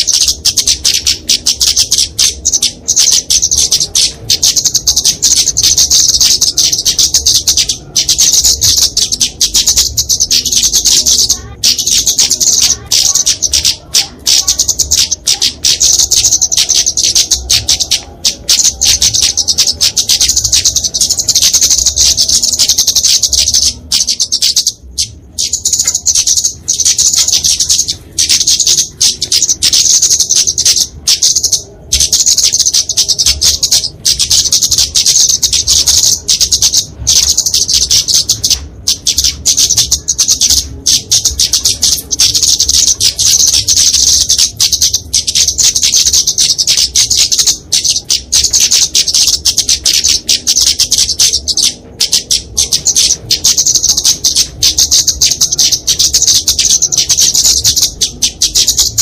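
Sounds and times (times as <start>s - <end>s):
bird twittering calls: 0.0s - 59.0s.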